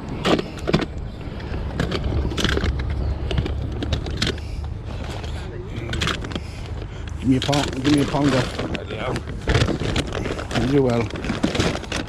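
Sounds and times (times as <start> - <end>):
handling noise rustling and clicking: 0.0 - 12.0.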